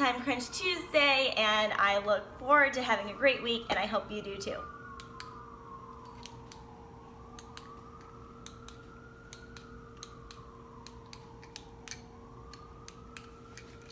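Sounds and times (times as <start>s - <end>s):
distant siren wailing: 0.0s - 13.9s
steady hum: 0.0s - 13.9s.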